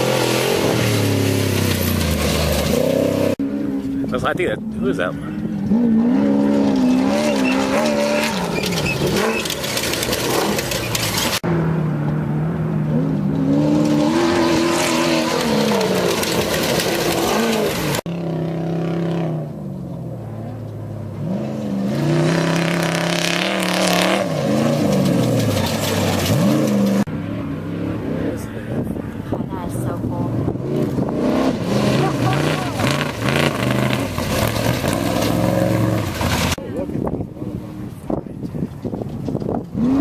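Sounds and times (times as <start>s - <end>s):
race engines revving: 0.0s - 40.0s.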